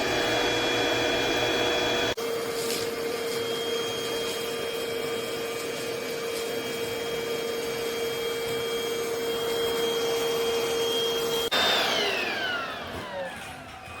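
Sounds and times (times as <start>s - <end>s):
vacuum motor whining: 0.0s - 14.0s.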